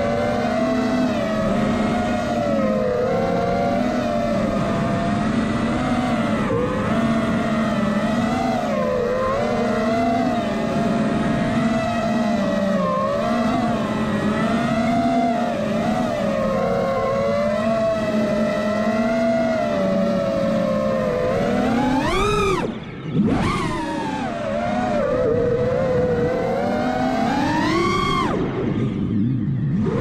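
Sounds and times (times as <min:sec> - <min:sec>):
electric motors whining: 0:00.0 - 0:28.7.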